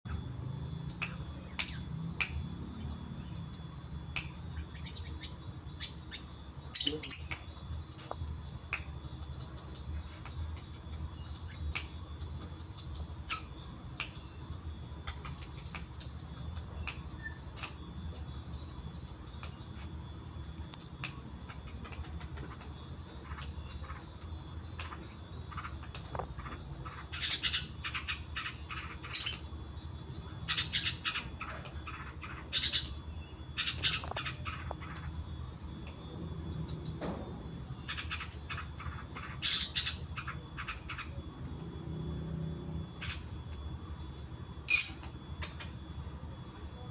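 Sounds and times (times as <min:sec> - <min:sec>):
shrike calling: 0:00.1 - 0:46.9.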